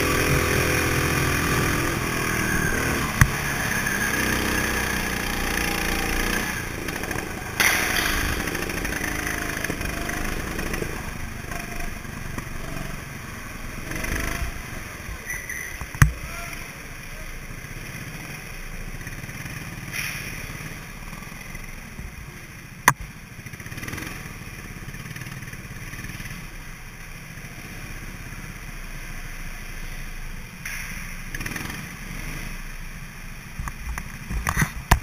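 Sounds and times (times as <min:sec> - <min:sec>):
go-kart engine rumbling: 0:00.0 - 0:35.0.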